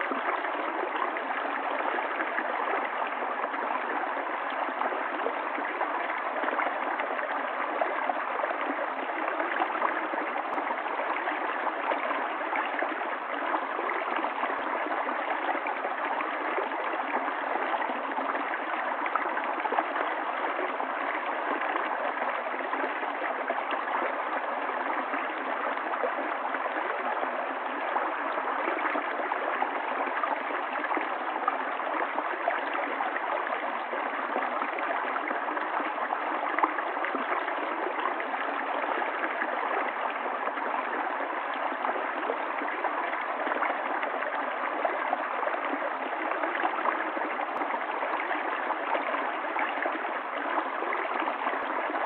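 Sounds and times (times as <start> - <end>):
stream water running: 0.0 - 52.0.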